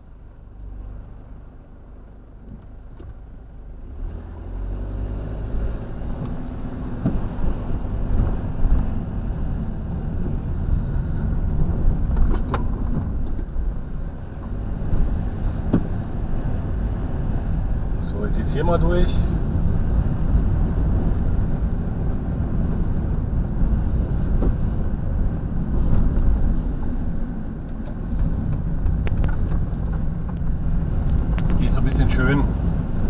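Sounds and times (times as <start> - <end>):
vehicle engine from inside cab: 0.0 - 33.0.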